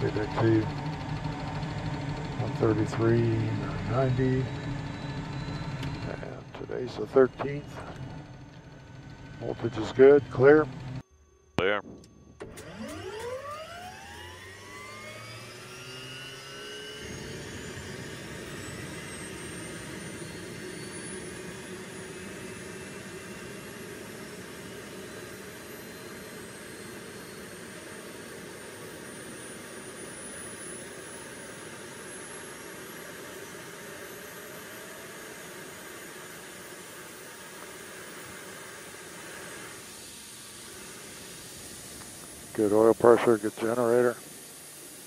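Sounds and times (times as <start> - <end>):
turbine engine whine rising: 0.0 - 45.0.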